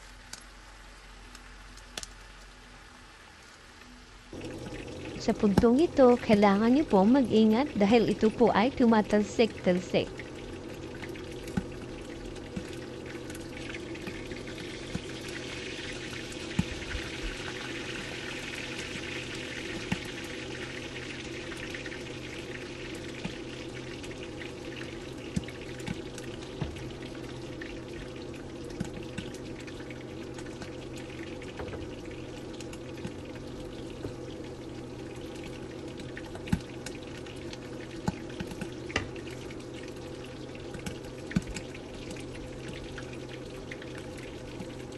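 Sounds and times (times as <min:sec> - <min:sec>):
meat sizzling in fat: 0:00.0 - 0:44.9.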